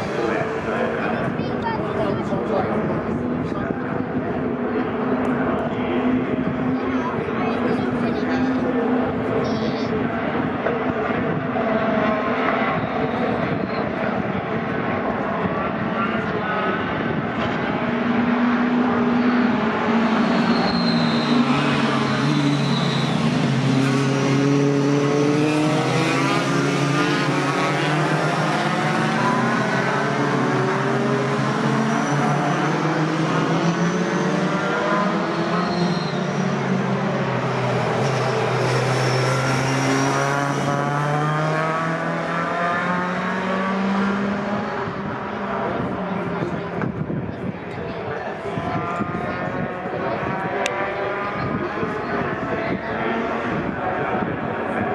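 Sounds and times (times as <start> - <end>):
racing truck engines revving: 0.0 - 54.9.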